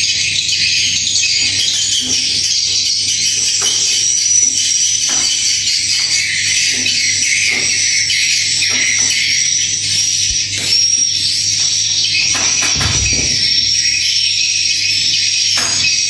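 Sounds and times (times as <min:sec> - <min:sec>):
swiftlets twittering: 0:00.8 - 0:15.8.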